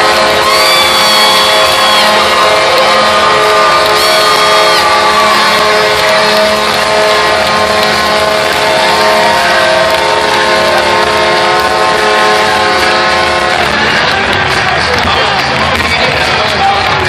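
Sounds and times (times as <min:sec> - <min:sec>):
goal horn blowing: 0:00.0 - 0:14.2
crowd noise: 0:00.0 - 0:17.0.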